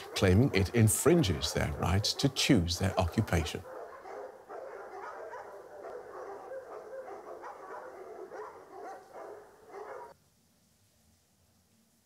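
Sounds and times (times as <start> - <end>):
dogs barking and yelping: 0.0 - 10.2.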